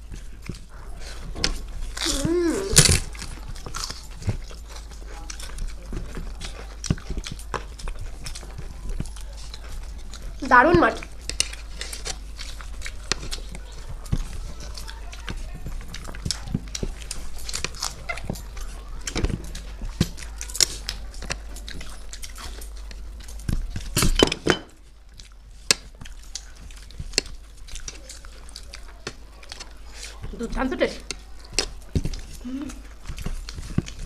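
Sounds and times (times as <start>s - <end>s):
chewing and crunching: 0.0s - 34.0s.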